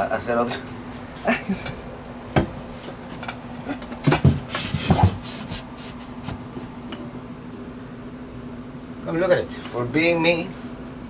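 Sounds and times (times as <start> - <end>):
air conditioner hum: 0.0 - 11.0.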